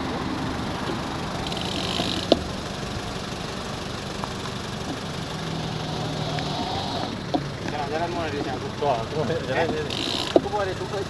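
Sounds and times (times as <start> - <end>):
road traffic noise: 0.0 - 11.0
vehicle engines idling: 0.0 - 11.0.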